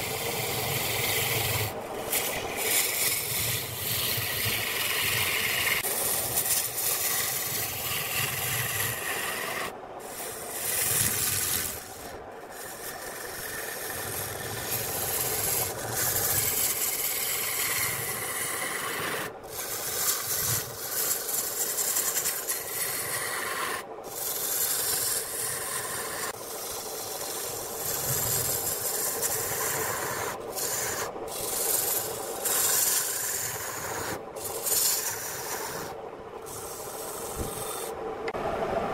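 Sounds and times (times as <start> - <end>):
lathe tool cutting wood: 0.0 - 38.0.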